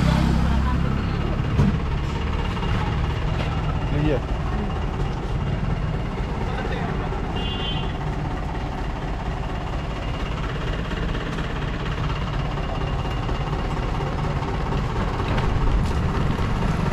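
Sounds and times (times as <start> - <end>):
bus engine rumble: 0.0 - 16.9
road traffic noise: 0.0 - 16.9.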